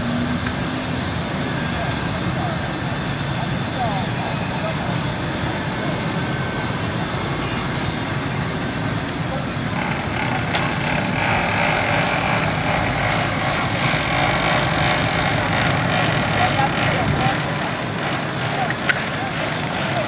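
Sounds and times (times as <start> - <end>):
street traffic passing: 0.0 - 20.0.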